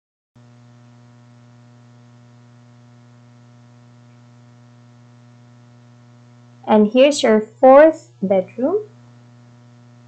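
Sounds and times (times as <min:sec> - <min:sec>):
electrical mains hum: 0:00.4 - 0:10.0.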